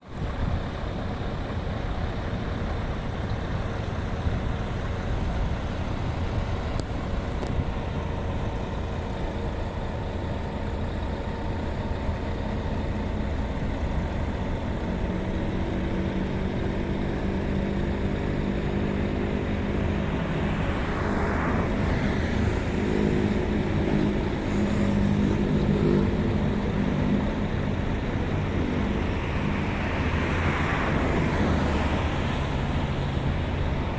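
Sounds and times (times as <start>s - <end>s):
diesel truck engine: 0.0s - 33.9s
road rumble: 0.0s - 33.9s.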